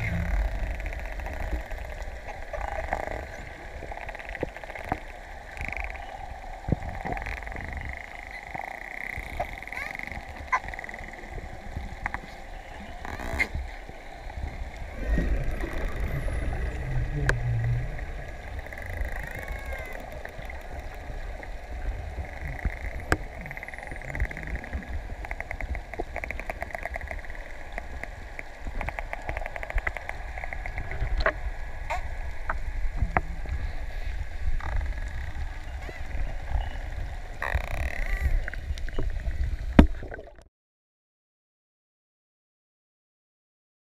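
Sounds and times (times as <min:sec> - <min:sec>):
low rumble of water movement: 0:00.0 - 0:40.5.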